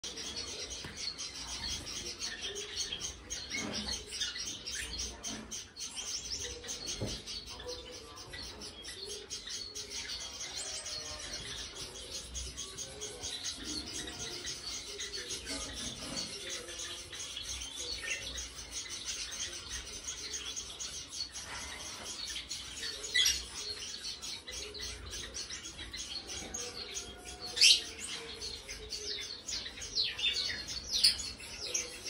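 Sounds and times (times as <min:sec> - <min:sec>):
cage birds chirping: 0:00.0 - 0:32.0.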